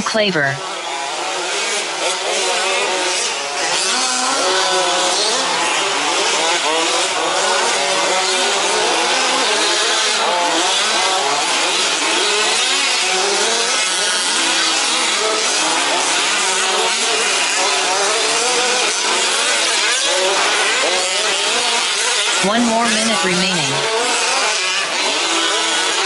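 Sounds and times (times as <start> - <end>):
small two-stroke engines racing: 0.0 - 26.0.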